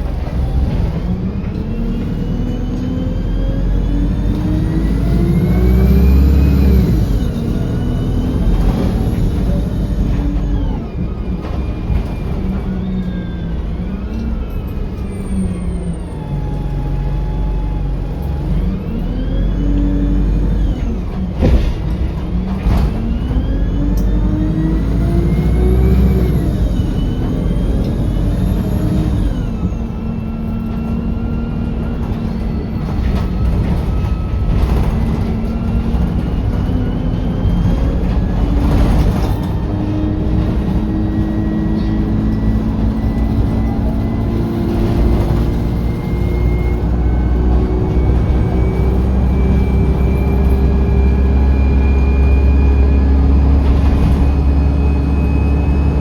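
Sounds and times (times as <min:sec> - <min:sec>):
bus diesel engine accelerating: 0:00.0 - 0:56.0.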